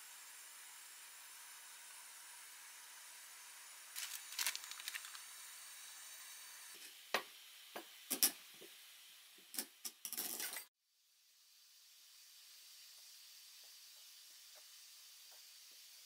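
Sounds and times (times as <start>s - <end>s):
steady hiss: 0.0s - 10.1s, 11.0s - 16.0s.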